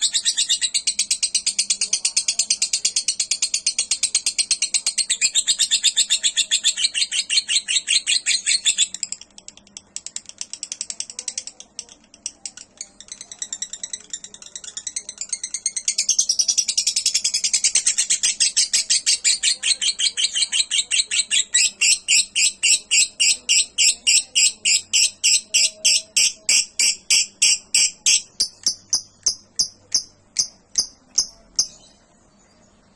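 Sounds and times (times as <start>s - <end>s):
bird chattering song: 0.0s - 32.9s.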